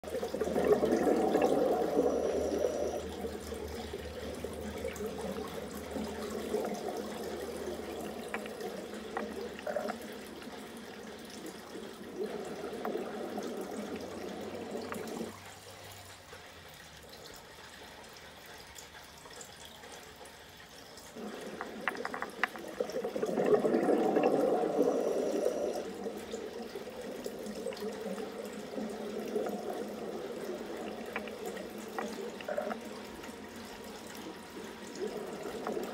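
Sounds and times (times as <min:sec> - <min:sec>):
bubbling running water: 0:00.0 - 0:35.9.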